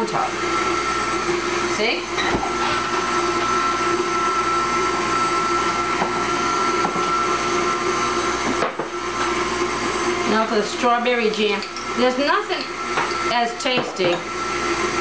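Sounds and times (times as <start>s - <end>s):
electric mixer motor whirring: 0.0s - 15.0s.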